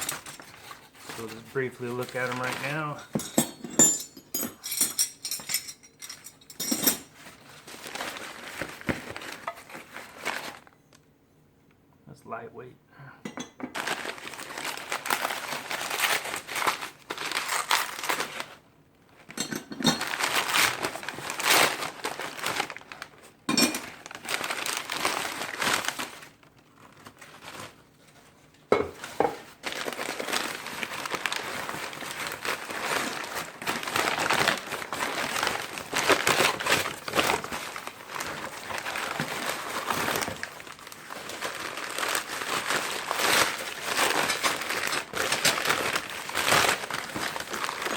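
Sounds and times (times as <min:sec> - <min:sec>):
packing wrap crinkling: 0:00.0 - 0:03.1, 0:07.1 - 0:11.1, 0:13.7 - 0:47.9.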